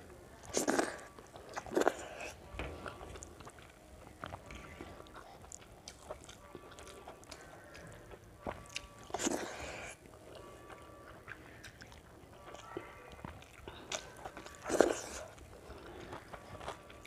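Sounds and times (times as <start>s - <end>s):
chewing and mouth sounds: 0.3s - 17.0s.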